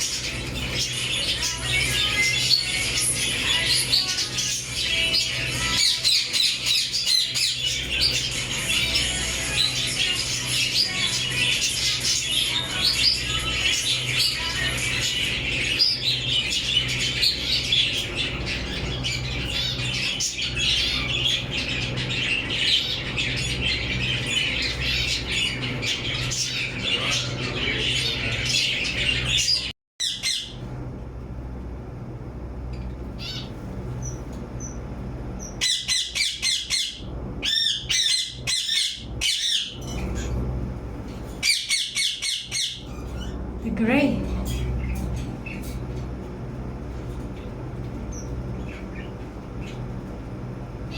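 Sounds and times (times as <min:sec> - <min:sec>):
budgies chattering and chirping: 0:00.0 - 0:30.6, 0:33.2 - 0:50.0
steady low hum: 0:00.0 - 0:50.9.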